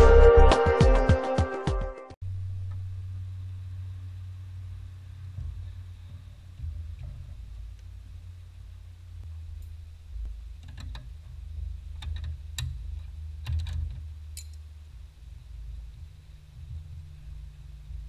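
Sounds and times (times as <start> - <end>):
steady low hum: 2.2 - 18.0.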